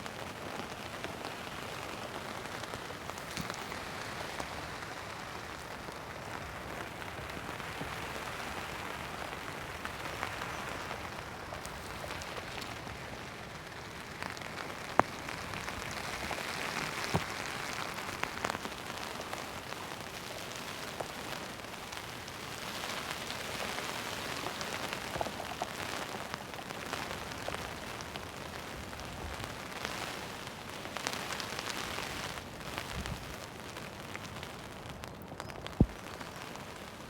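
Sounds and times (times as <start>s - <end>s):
heavy rain falling: 0.0s - 37.0s
raindrops hitting close by: 0.0s - 37.0s.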